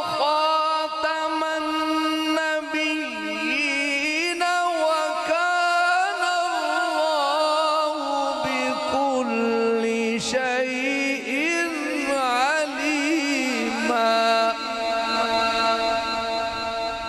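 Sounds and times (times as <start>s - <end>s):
man chanting devotional verse: 0.0s - 17.0s.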